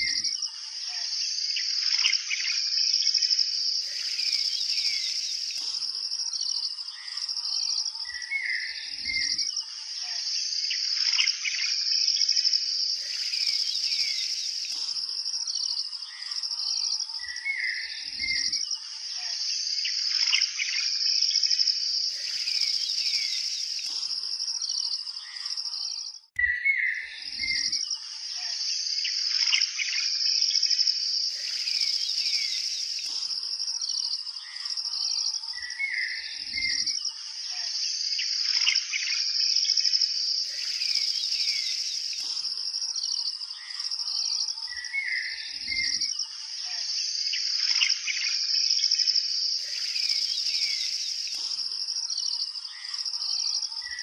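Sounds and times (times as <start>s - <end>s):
birds chirping and calling: 0.0s - 12.3s, 12.9s - 48.4s, 49.4s - 54.0s
high insect trill: 0.0s - 26.0s, 27.3s - 54.0s.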